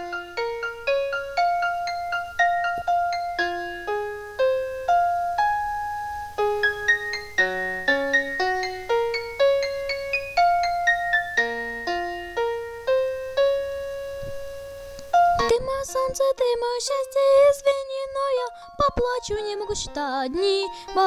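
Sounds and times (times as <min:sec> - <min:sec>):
keyboard melody: 0:00.0 - 0:21.0.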